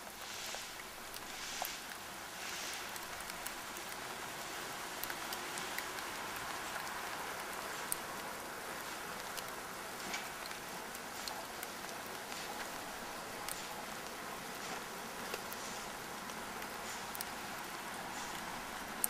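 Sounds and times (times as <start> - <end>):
raindrops ticking on surfaces: 0.0 - 19.0
steady rain falling: 0.0 - 19.0.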